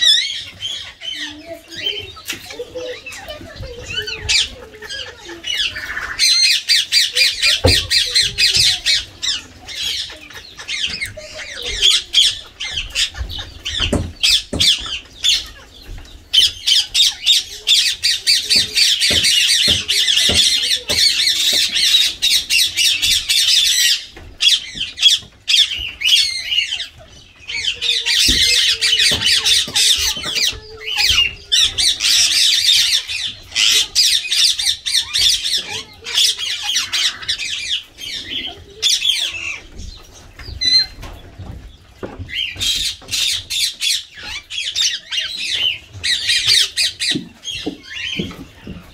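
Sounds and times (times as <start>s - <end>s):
parakeets squawking: 0.0s - 48.9s.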